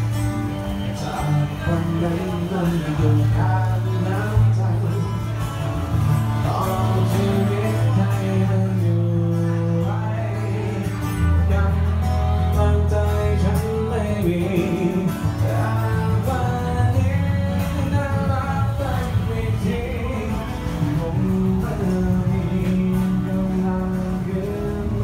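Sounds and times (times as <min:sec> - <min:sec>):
bass line: 0:00.0 - 0:25.0
guitar: 0:00.0 - 0:25.0
man singing: 0:00.0 - 0:25.0.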